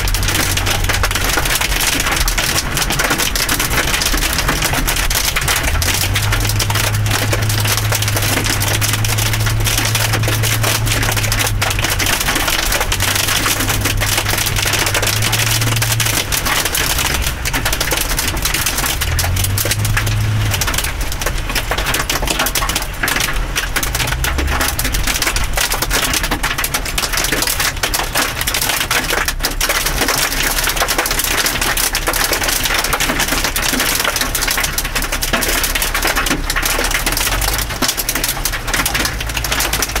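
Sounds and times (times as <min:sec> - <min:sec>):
hail and rain pelting a car: 0:00.0 - 0:40.0.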